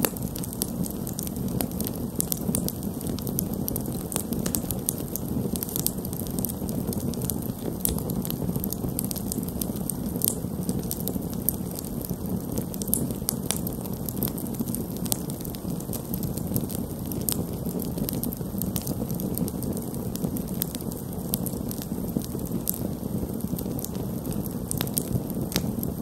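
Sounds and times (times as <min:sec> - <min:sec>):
campfire flames rushing: 0:00.0 - 0:26.0
fire crackling and popping: 0:00.0 - 0:26.0.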